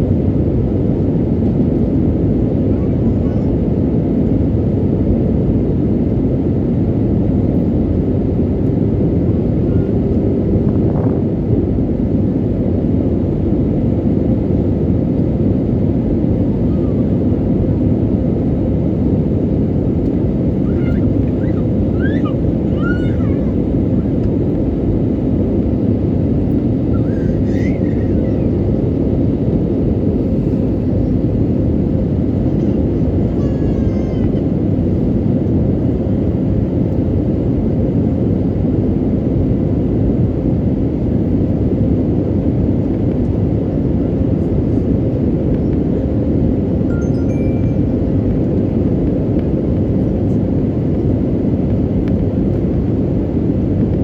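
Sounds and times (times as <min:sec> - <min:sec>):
airliner cabin engine roar: 0:00.0 - 0:54.0.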